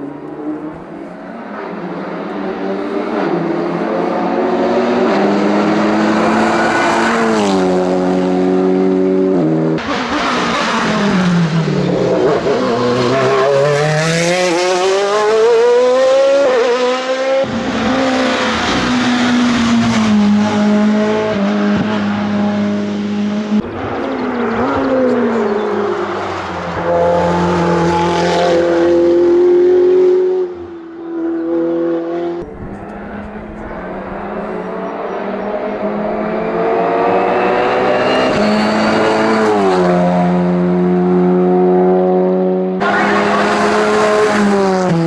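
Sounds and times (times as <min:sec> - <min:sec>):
racing car engines revving: 0:00.0 - 0:45.0.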